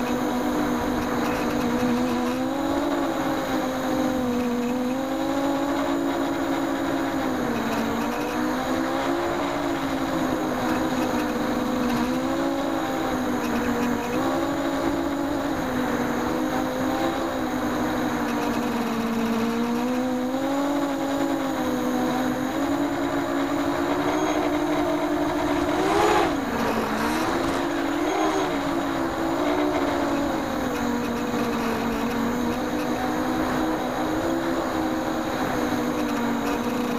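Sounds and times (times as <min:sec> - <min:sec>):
quadcopter motors whining: 0:00.0 - 0:36.9.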